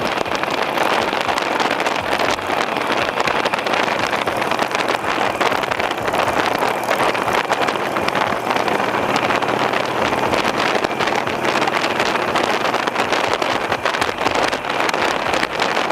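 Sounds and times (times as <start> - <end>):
motorcycle engine running: 0.0 - 15.9
wind rushing over microphone: 0.0 - 15.9.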